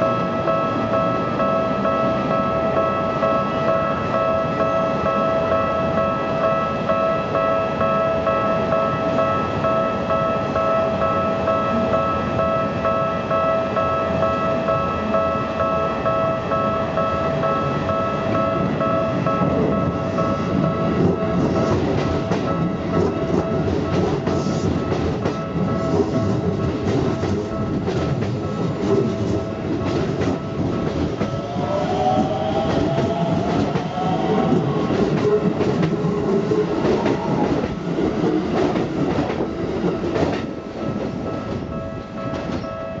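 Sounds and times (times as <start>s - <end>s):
level crossing warning bell: 0.0s - 43.0s
train rumbling over rails: 0.0s - 43.0s.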